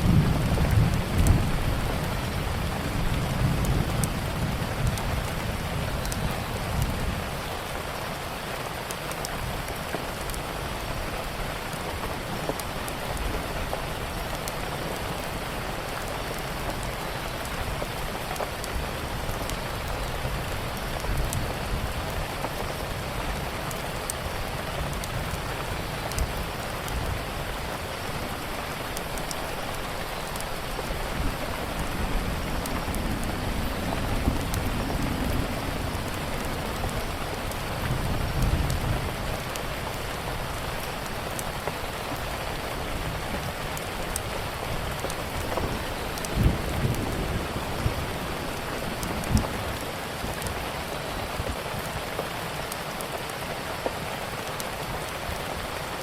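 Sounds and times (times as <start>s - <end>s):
steady rainfall: 0.0s - 56.0s
fireplace crackles: 3.8s - 56.0s.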